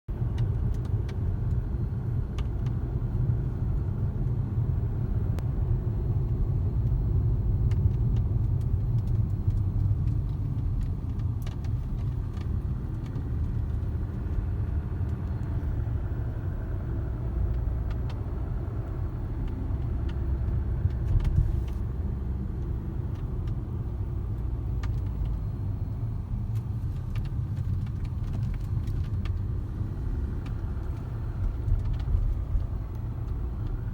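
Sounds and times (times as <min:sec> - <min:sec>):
road noise rumble: 0:00.1 - 0:33.9.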